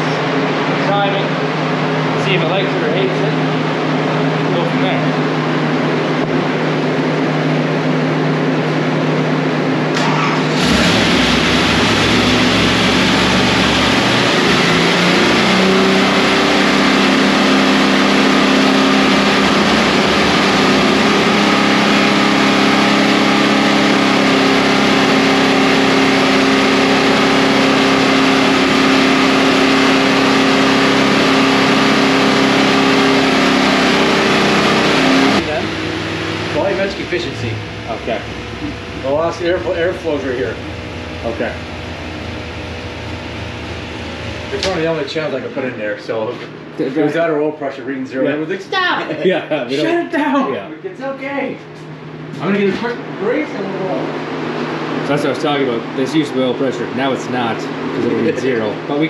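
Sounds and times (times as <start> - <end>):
car engine running on a dyno: 0.0 - 59.0.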